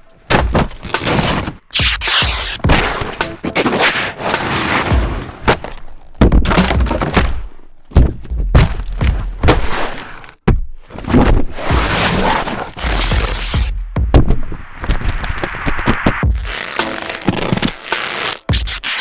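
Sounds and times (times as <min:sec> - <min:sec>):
heavy hits and thuds: 0:00.2 - 0:16.6
crunching debris: 0:00.2 - 0:19.0
furniture breaking: 0:00.3 - 0:15.5.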